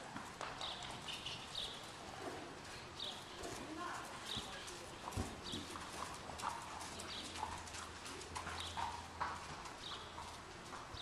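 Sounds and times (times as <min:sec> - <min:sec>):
horse hoofbeats on sand: 0:00.1 - 0:11.0.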